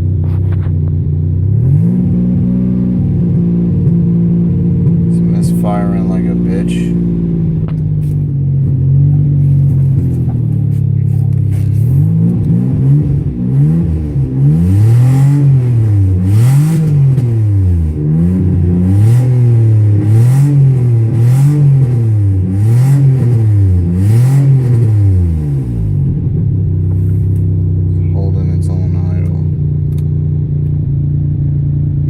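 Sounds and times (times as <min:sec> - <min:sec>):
car engine revving and misfiring: 0:00.0 - 0:32.0.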